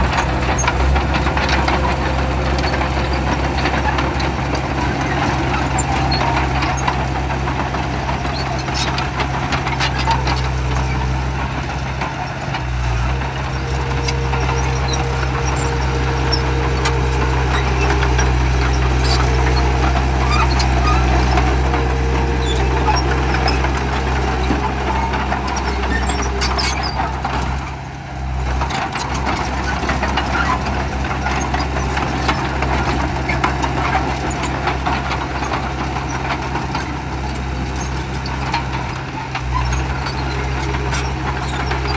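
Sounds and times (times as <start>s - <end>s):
bulldozer diesel engine: 0.0s - 41.9s
knocks and clanks: 0.0s - 41.9s.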